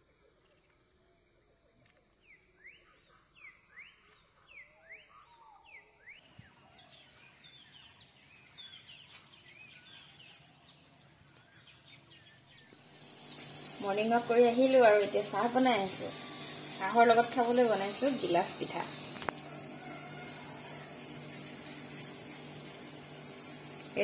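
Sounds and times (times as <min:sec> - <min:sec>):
birds chirping chorus: 0:02.2 - 0:24.0.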